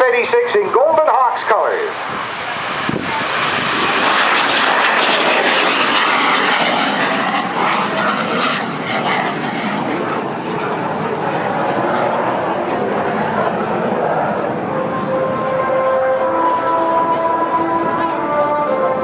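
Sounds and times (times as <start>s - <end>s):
jet flying past: 0.0s - 19.0s.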